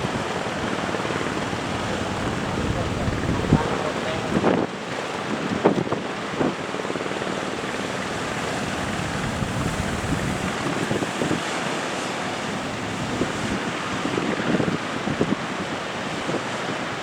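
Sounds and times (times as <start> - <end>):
surf breaking: 0.0 - 15.4
wind buffeting microphone: 0.0 - 17.0.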